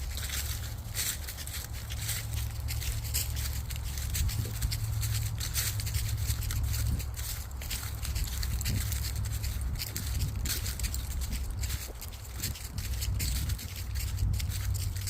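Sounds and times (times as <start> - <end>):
footsteps crunching on a trail: 0.0 - 15.0
wind rumble on microphone: 0.0 - 15.0.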